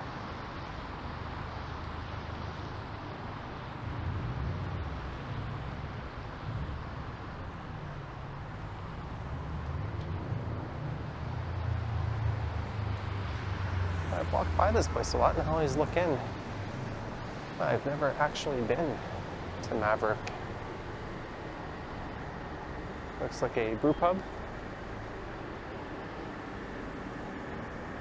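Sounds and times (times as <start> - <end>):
cars passing: 0.0 - 28.0.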